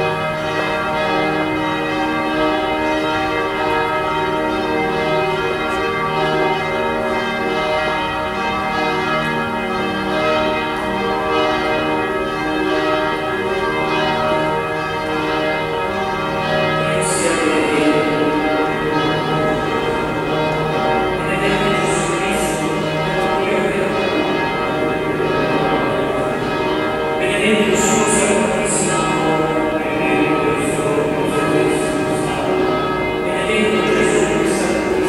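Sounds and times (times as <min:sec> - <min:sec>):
church bells pealing: 0:00.0 - 0:35.0.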